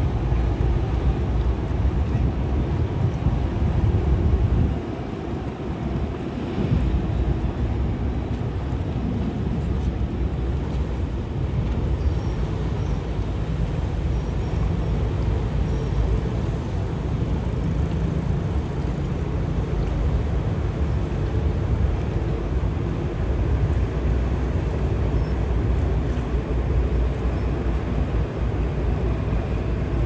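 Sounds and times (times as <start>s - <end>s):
ferry engine rumbling: 0.0s - 30.0s.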